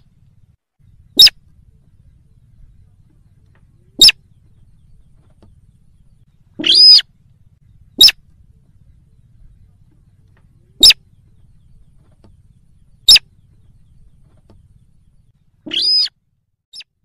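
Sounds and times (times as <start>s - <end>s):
rail bird calls: 0.0s - 16.2s.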